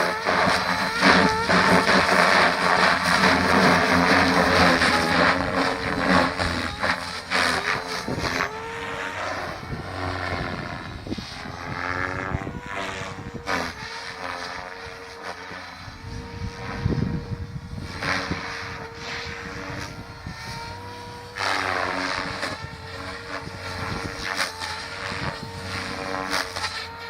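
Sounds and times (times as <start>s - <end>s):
wind on microphone: 0.0s - 26.7s
rc helicopter motor whine: 0.0s - 27.0s.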